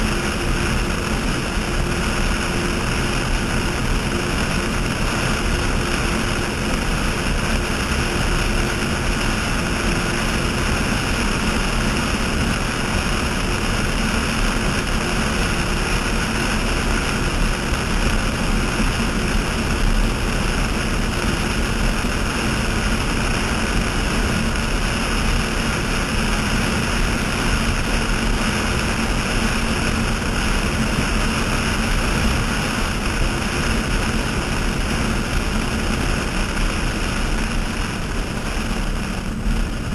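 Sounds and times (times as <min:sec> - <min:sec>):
boat engines roaring: 0:00.0 - 0:39.9
rushing spray: 0:00.0 - 0:39.9
wind: 0:00.0 - 0:39.9.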